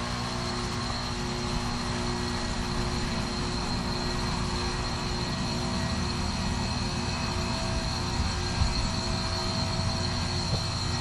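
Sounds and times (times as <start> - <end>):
fan whir: 0.0 - 11.0
heat pump compressor hum: 0.0 - 11.0
high-pitched whine: 0.0 - 11.0.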